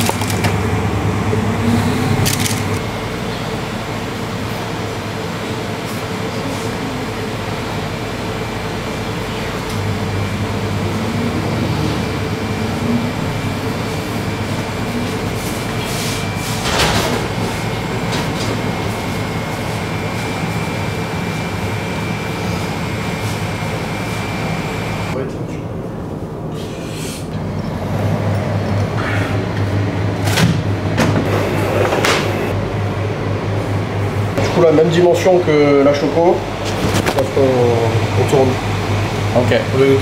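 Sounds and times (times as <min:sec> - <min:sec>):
machinery humming: 0:00.0 - 0:40.0.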